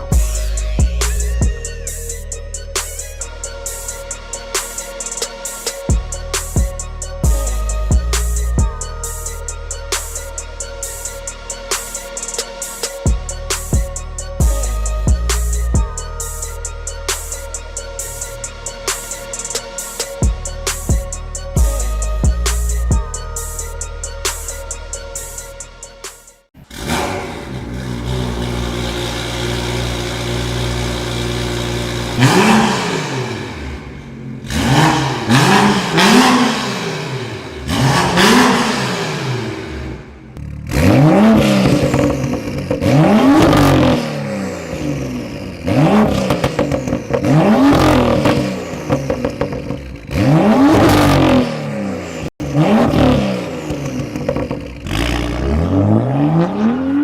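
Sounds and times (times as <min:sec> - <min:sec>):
car exhaust idling and revving: 0:00.0 - 0:24.2, 0:26.5 - 0:57.0.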